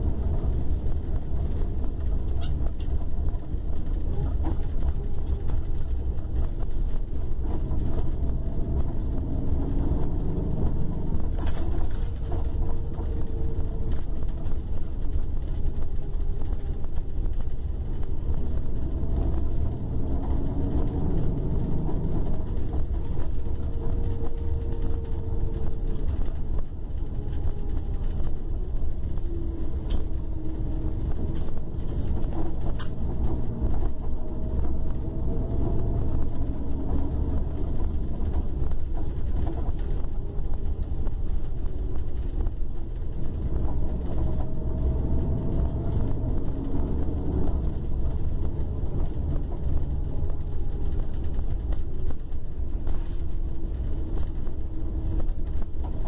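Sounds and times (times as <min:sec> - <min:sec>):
diesel bus engine droning: 0:00.0 - 0:56.0.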